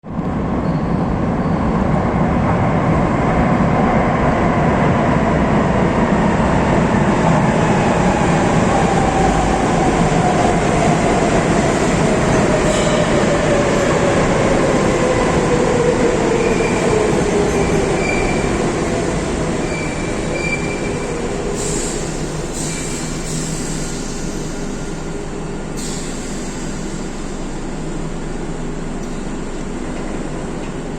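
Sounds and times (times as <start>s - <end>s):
metro train whine: 0.0s - 30.9s.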